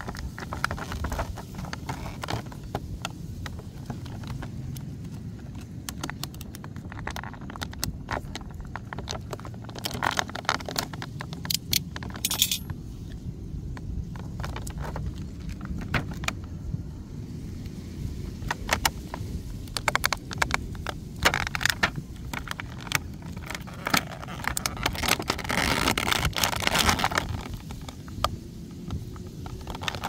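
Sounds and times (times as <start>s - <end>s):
plastic packaging crinkling: 0.0s - 12.7s, 14.1s - 16.6s, 18.2s - 30.0s
steady low rumble: 0.0s - 30.0s.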